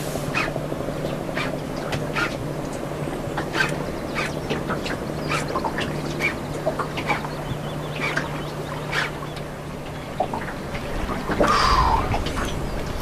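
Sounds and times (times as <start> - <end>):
boat engine idling: 0.0 - 13.0
birds calling: 0.3 - 13.0.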